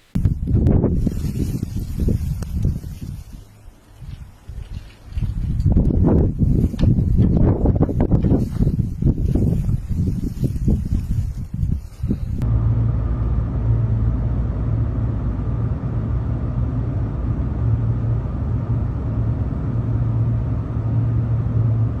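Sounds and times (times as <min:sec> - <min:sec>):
motor vehicle rumble: 0:00.0 - 0:22.0.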